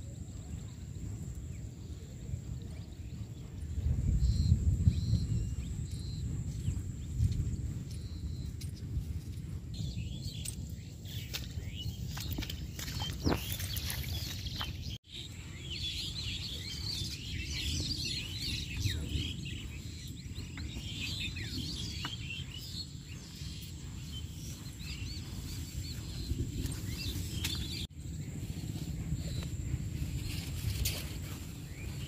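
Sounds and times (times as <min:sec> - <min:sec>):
small birds chirping: 0:00.0 - 0:32.0
wind rumble on microphone: 0:00.0 - 0:32.0.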